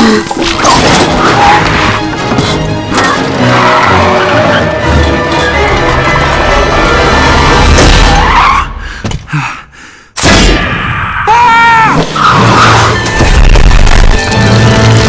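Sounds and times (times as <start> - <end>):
film score music: 0.0 - 15.0.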